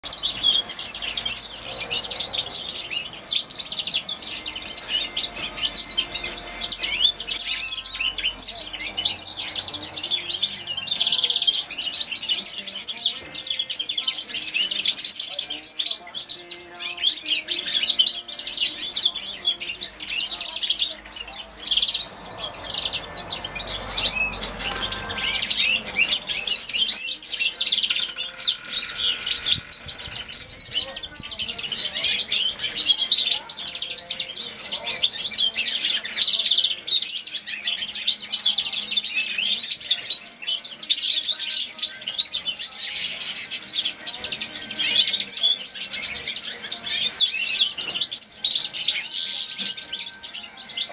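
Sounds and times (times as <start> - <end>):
finch twittering song: 0.0 - 50.9.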